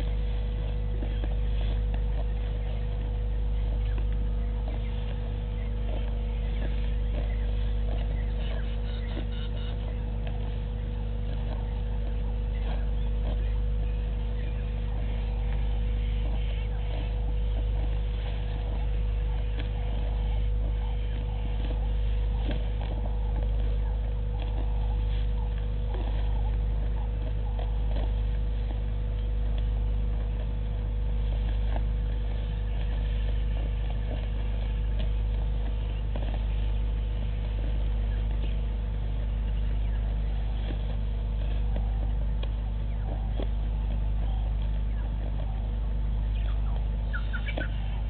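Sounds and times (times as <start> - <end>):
faint clicks and chirps: 0.0 - 48.0
low hum: 0.0 - 48.0.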